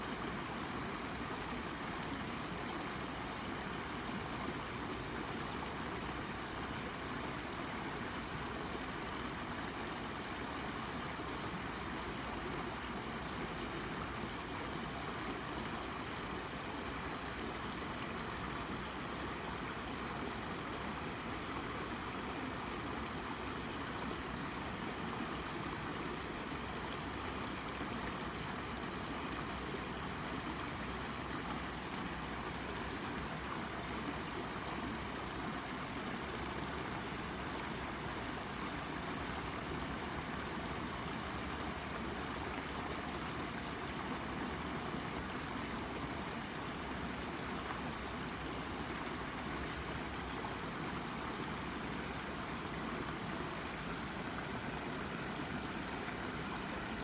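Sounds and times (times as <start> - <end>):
brook babbling over rock: 0.0 - 57.0.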